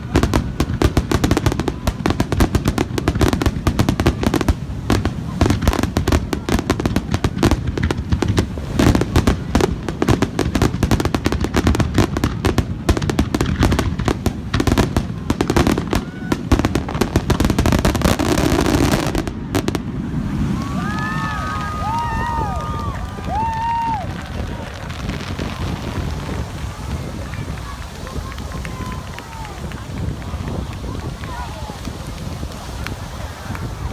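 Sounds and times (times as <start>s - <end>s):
fireworks bangs and crackling: 0.0s - 33.9s
whistling fireworks: 0.0s - 33.9s.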